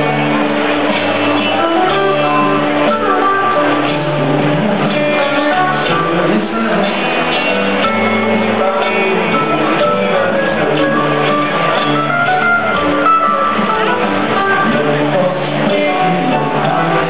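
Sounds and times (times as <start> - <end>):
electric guitars: 0.0 - 17.0
live rock band playing: 0.0 - 17.0.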